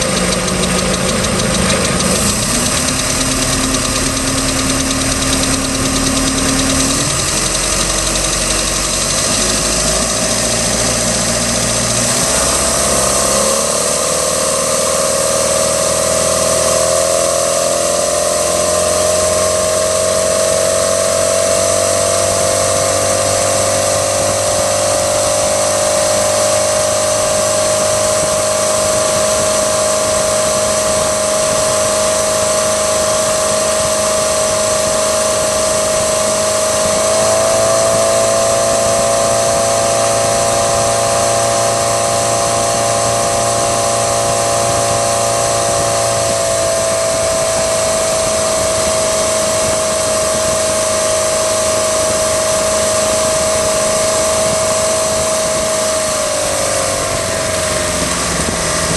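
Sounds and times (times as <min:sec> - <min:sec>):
boat engine whining: 0:00.0 - 0:58.9
engine ticking: 0:00.0 - 0:58.9.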